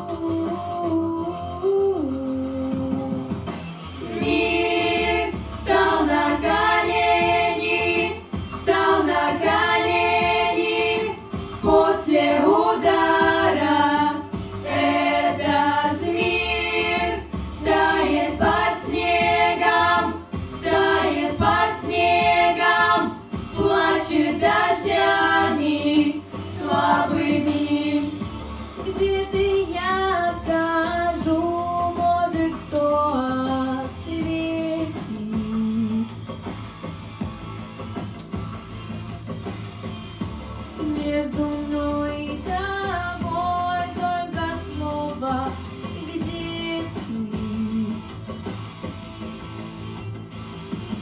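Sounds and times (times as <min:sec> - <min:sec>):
girls singing into microphones: 0:00.0 - 0:03.4, 0:04.0 - 0:36.1, 0:40.8 - 0:48.2.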